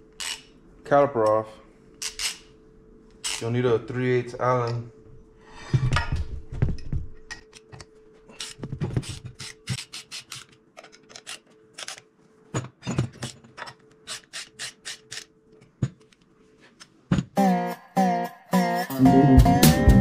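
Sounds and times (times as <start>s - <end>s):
faint steady hum: 0.0s - 17.3s.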